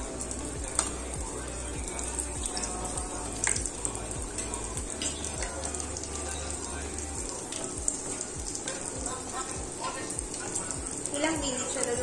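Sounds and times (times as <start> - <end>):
background music with beat: 0.0 - 12.0
dough sizzling in hot oil: 0.0 - 12.0.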